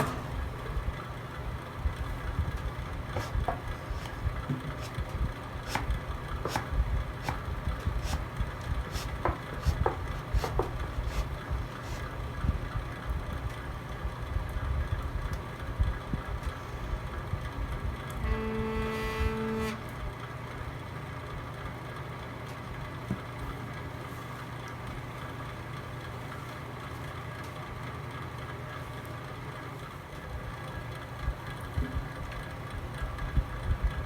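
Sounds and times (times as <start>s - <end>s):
low rumble of flame: 0.0s - 34.0s.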